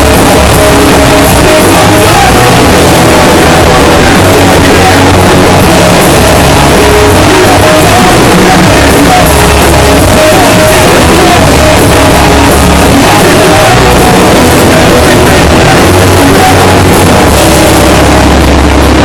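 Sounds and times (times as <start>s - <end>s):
distorted rock band playing: 0.0s - 19.0s.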